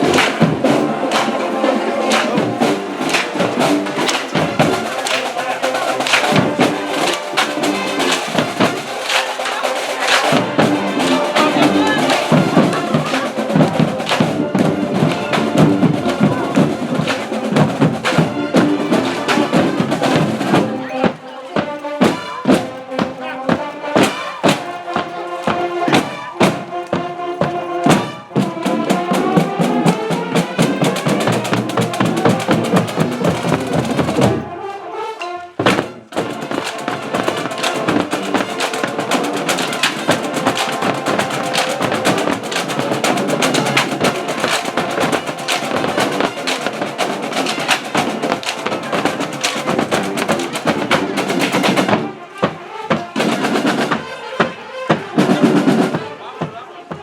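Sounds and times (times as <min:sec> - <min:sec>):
fast dense drumming: 0:00.0 - 0:20.8, 0:27.9 - 0:34.4, 0:35.6 - 0:57.0
brass chords: 0:00.0 - 0:57.0
marching band playing: 0:00.0 - 0:57.0.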